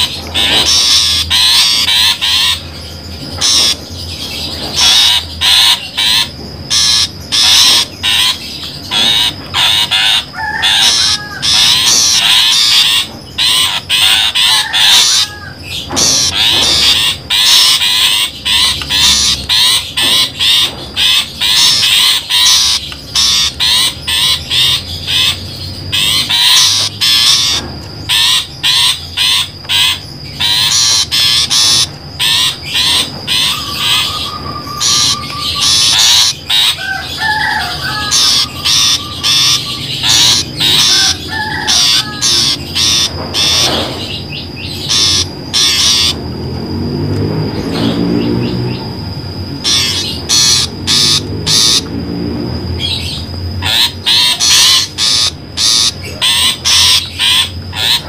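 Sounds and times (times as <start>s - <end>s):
bird calling in rapid notes: 0.0s - 46.3s, 47.5s - 58.0s.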